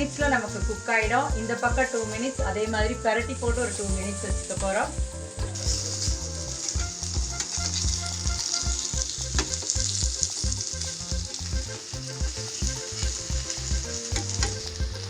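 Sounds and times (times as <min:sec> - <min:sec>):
food sizzling in oil: 0:00.0 - 0:15.0
low pulsing beat: 0:00.0 - 0:15.0.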